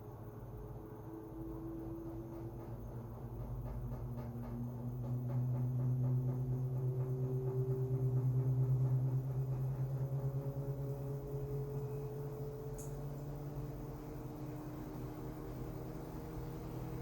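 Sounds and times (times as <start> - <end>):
washing machine motor hum: 0.8 - 17.0.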